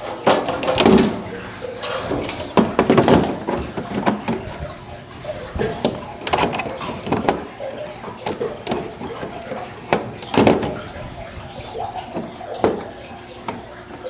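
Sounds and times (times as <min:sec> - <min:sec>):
trays knocking and clattering: 0:00.0 - 0:14.0.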